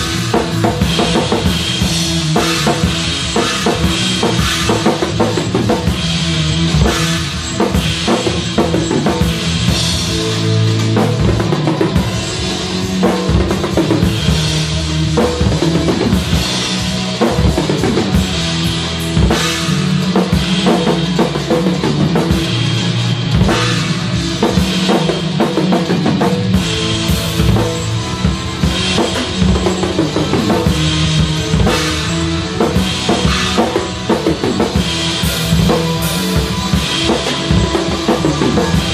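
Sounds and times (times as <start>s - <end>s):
rock drum kit playing: 0.0s - 38.9s.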